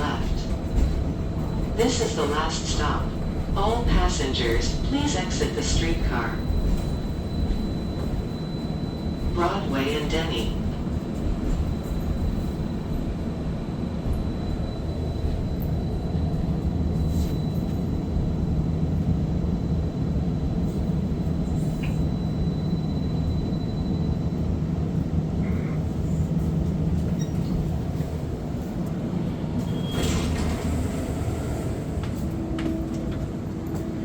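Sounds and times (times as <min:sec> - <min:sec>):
streetcar rumble and hum: 0:00.0 - 0:34.0.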